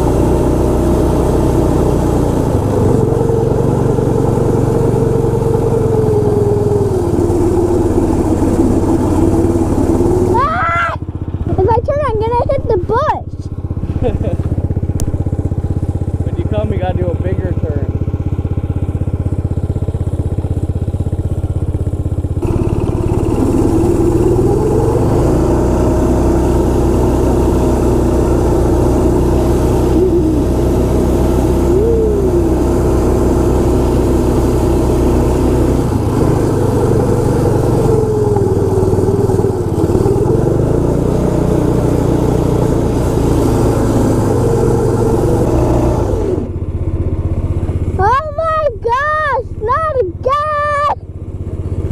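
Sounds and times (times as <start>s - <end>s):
snowmobile engine running: 0.0s - 51.9s.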